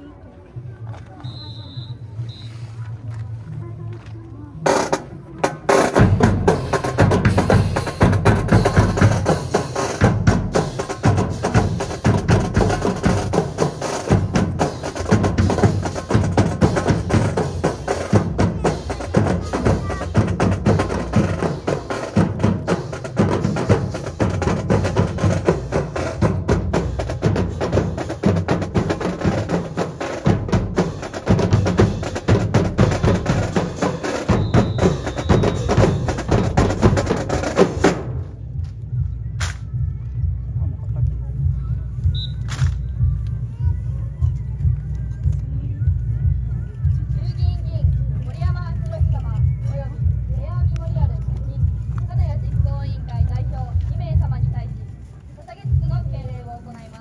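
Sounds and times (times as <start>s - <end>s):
bass drum beats: 4.6s - 54.8s, 55.6s - 56.7s
drum corps marching cadence: 4.6s - 57.0s.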